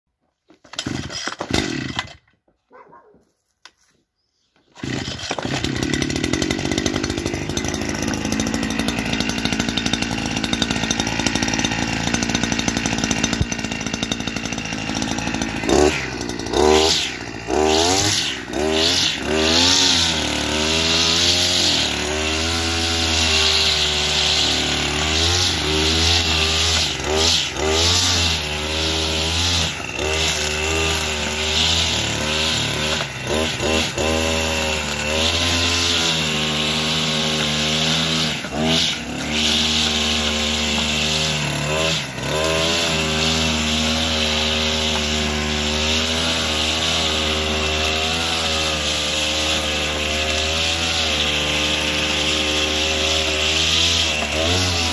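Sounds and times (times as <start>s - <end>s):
recoil cord pulls: 0.5s - 2.3s, 4.7s - 47.6s
brushcutter engine revving: 0.7s - 2.2s, 4.8s - 54.9s.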